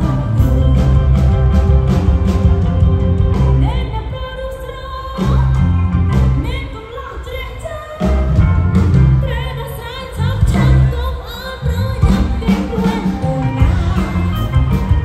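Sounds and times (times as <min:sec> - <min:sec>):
live band playing dance music: 0:00.0 - 0:15.0
woman singing: 0:00.0 - 0:15.0.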